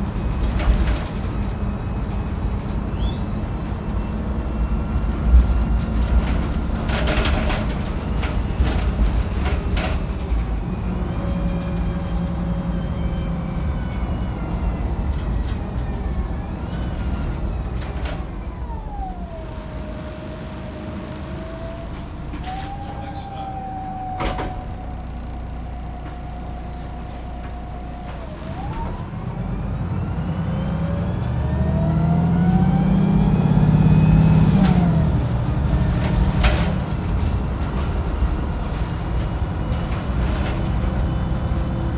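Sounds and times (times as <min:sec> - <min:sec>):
bus engine rumbling: 0:00.0 - 0:41.9
drivetrain whine: 0:00.0 - 0:41.9.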